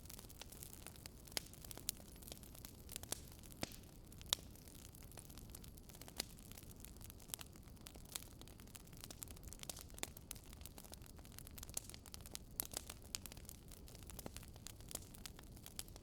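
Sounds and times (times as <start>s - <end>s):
campfire crackling and popping: 0.0s - 16.0s
low rumble of fire: 0.0s - 16.0s.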